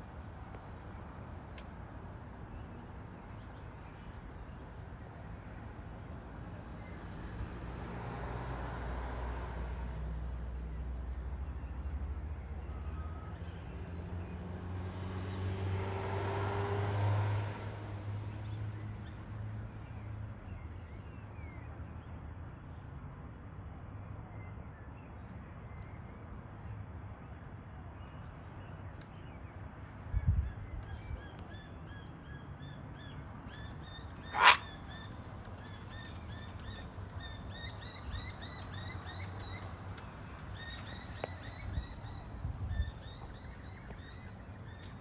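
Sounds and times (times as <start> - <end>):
outdoor background noise: 0.0 - 45.0
vehicles passing by: 0.0 - 45.0.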